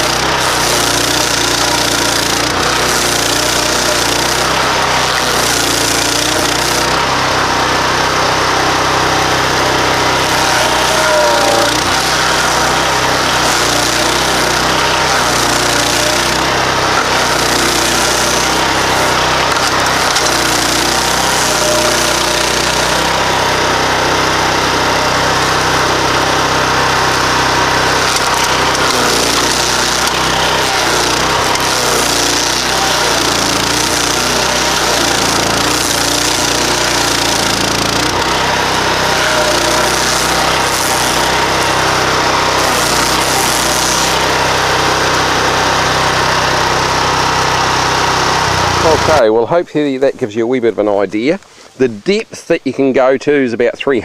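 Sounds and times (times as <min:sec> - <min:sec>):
engine drone: 0:00.0 - 0:49.3
stump grinder grinding wood: 0:00.0 - 0:52.8.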